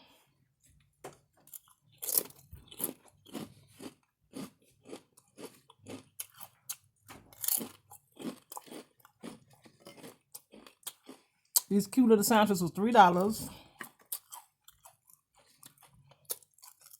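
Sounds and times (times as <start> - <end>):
person chewing crunchy food: 1.1 - 11.7, 13.6 - 16.9.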